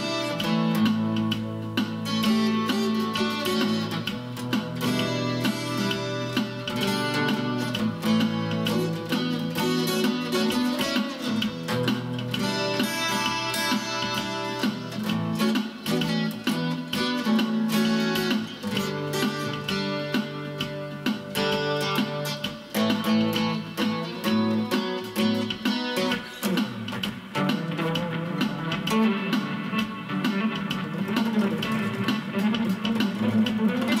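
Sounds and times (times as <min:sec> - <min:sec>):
acoustic guitar picking: 0:00.0 - 0:34.0.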